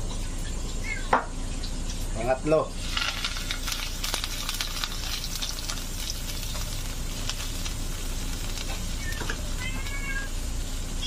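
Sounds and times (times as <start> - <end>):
leaves deep-frying in oil: 0.0 - 11.0.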